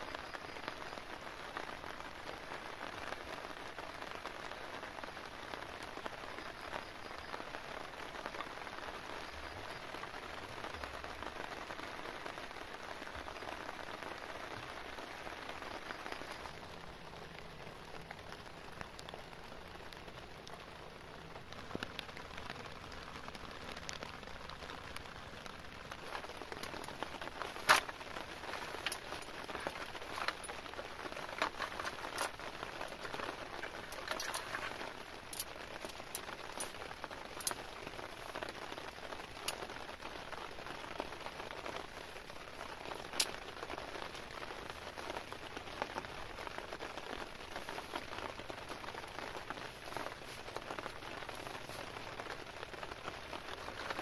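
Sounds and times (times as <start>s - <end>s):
rain falling on a tarp: 0.0s - 54.0s.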